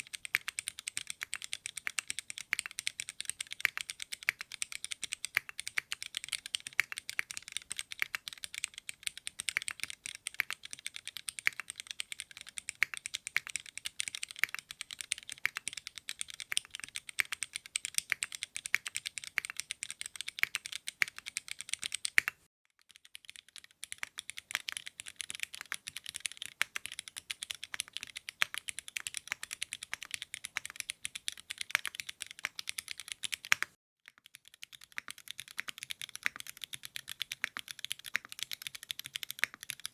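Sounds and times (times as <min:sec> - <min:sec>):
fast mechanical keyboard typing: 0:00.0 - 0:22.4, 0:23.0 - 0:39.9.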